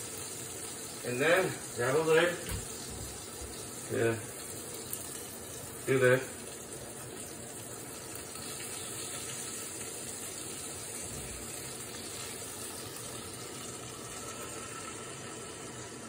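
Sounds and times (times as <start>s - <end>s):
burger patty sizzling in a pan: 0.0s - 16.0s.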